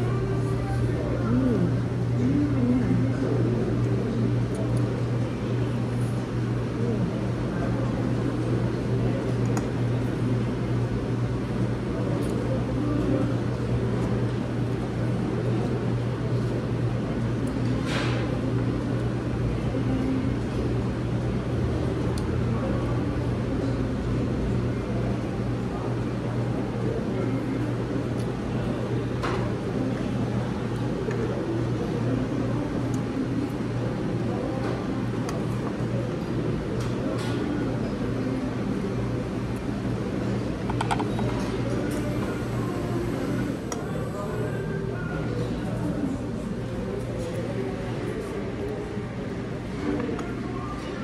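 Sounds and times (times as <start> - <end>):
restaurant background hum: 0.0 - 51.0.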